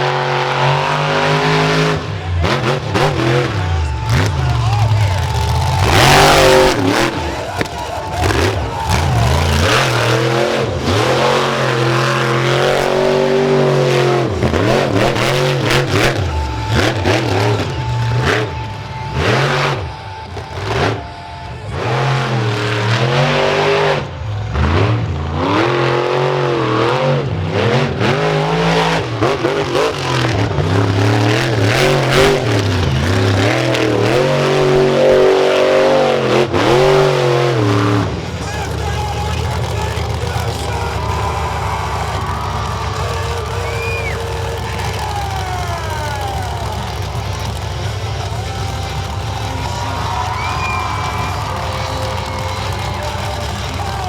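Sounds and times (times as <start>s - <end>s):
monster truck engine revving: 0.0s - 54.0s.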